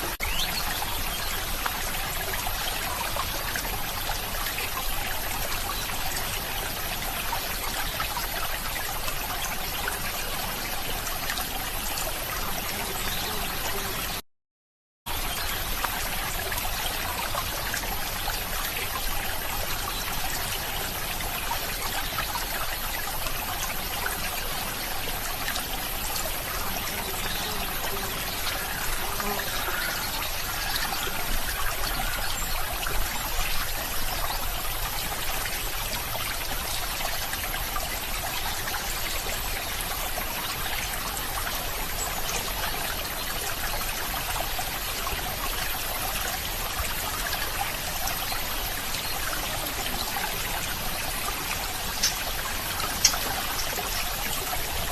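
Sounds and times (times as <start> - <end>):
stream trickling: 0.0 - 14.2, 15.1 - 54.9.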